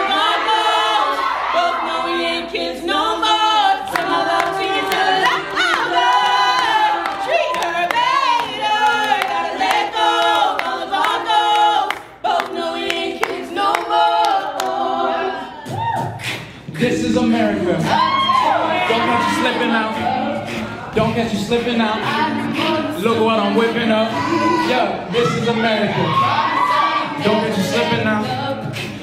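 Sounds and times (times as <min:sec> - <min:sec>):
a cappella group singing: 0:00.0 - 0:29.0.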